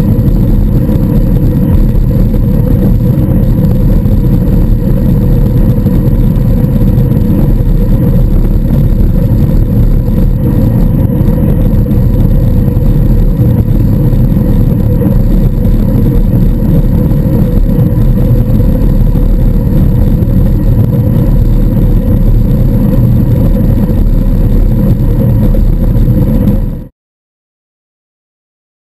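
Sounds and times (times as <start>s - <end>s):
road noise: 0.0s - 26.9s
steady hum: 0.0s - 26.9s
wind rush: 0.0s - 26.9s.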